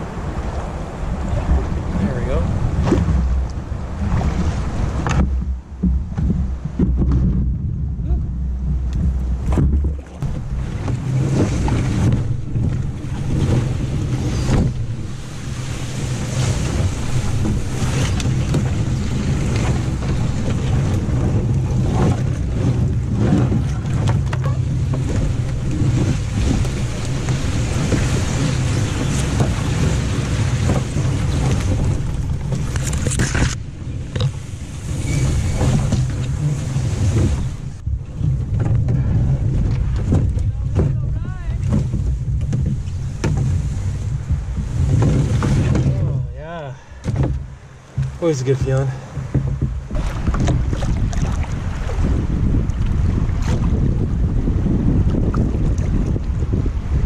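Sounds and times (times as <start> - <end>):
canoe hull scraping over ground: 0.0 - 57.0.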